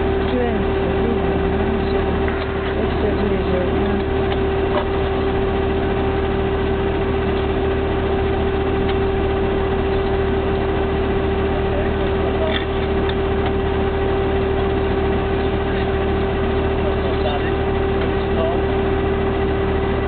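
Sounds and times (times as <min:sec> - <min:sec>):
auger drilling rig engine: 0:00.0 - 0:20.0.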